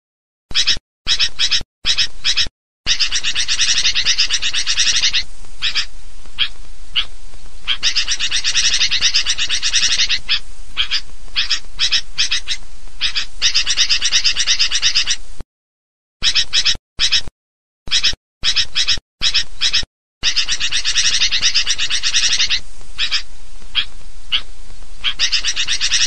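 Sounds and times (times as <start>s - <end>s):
bulbul calls chattering: 0.5s - 15.2s, 16.2s - 17.3s, 17.9s - 26.0s.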